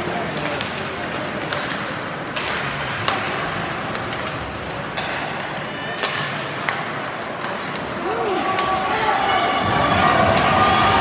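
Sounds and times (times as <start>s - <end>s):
hockey sticks and puck clacking: 0.0s - 11.0s
ice rink noise: 0.0s - 11.0s.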